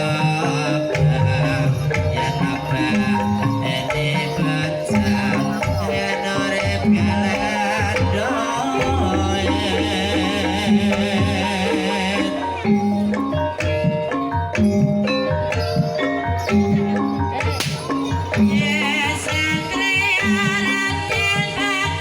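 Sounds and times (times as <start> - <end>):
hand drum patterns: 0.0 - 22.0
tuned metal percussion: 0.0 - 22.0
wavering high melody: 0.0 - 22.0.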